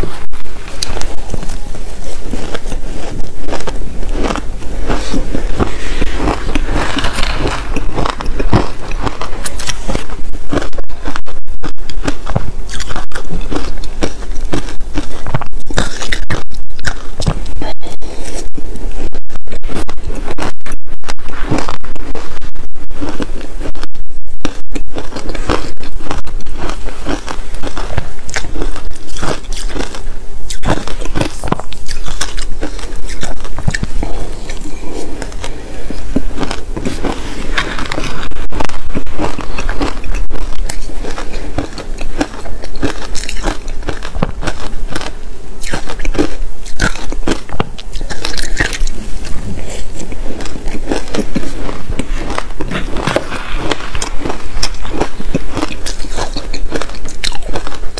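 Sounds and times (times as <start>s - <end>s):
crunching shaved ice: 0.0s - 18.4s, 24.4s - 57.9s.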